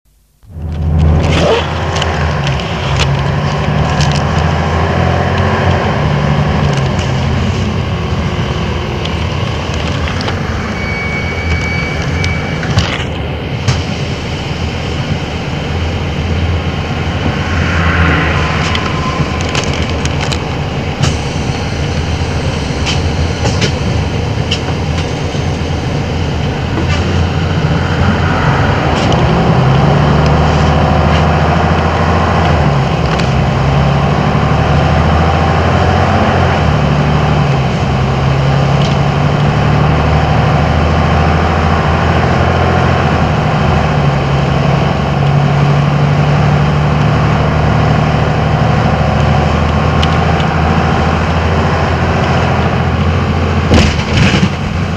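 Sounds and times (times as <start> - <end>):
bus diesel engine pulling away: 0.5 - 54.9.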